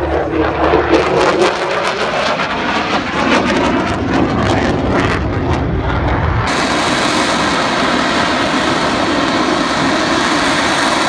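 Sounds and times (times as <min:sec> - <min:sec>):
jet engine roaring with crackle: 0:00.0 - 0:11.0.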